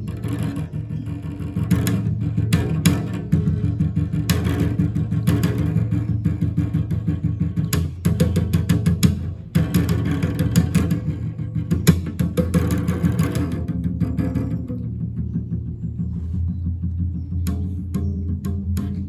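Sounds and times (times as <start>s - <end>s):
solo cello groove: 0.0s - 19.0s.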